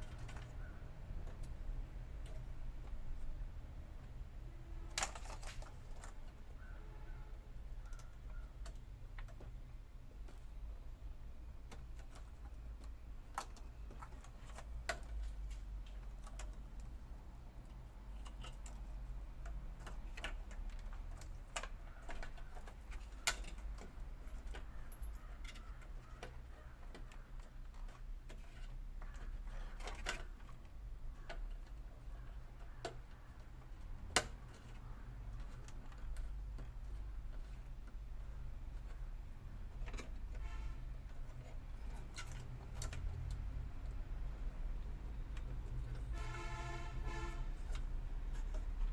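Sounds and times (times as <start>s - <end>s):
small clicks and taps of parts: 0.0s - 6.7s, 7.7s - 48.9s.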